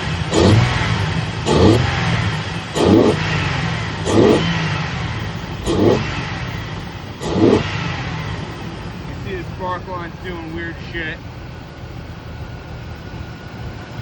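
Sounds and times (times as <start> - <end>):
car engine idling with misfire: 0.0 - 14.0
engine revving: 0.0 - 14.0.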